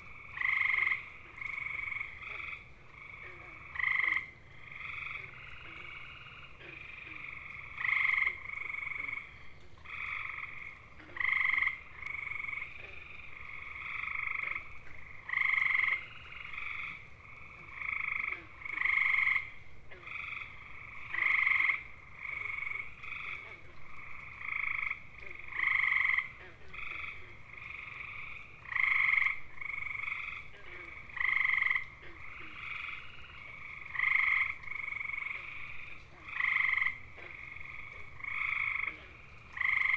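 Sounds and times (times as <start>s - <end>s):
tree frogs trilling: 0.0s - 39.9s.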